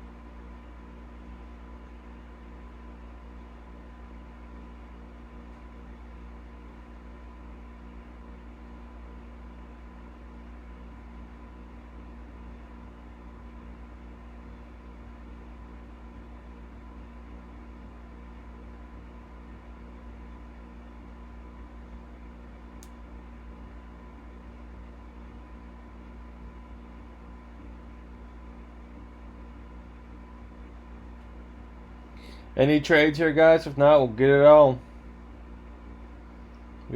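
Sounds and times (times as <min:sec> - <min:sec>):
low electrical hum with hiss: 0:00.0 - 0:36.9.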